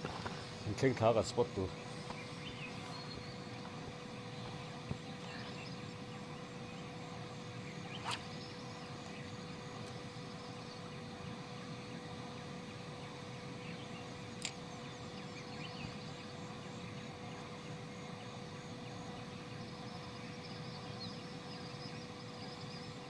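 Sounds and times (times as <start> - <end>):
faint bird or insect chirps: 0.0 - 23.0
steady hum: 0.0 - 23.0.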